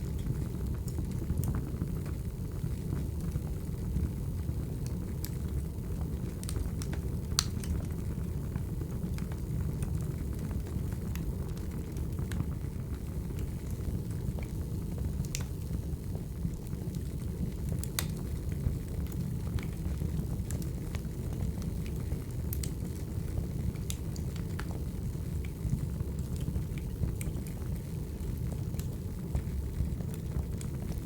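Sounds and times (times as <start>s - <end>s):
fire crackling and popping: 0.0s - 31.0s
wood fire rumbling: 0.0s - 31.0s.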